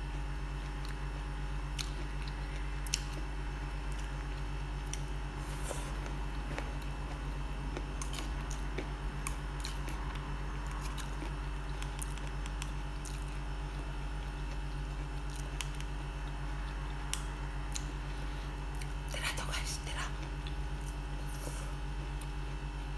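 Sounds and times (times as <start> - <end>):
steady low hum: 0.0 - 22.9
chewing corn: 0.6 - 19.0.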